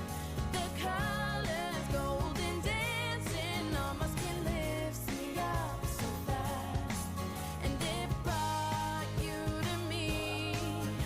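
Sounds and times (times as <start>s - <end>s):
pop song with sung vocals: 0.0s - 11.0s.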